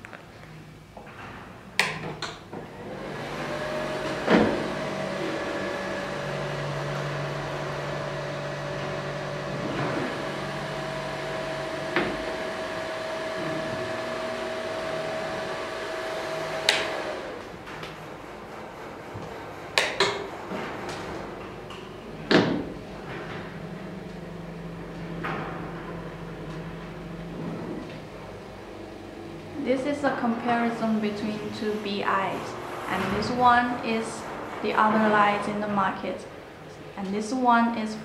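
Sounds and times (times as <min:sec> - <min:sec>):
cooling fan whining: 0:00.0 - 0:38.0.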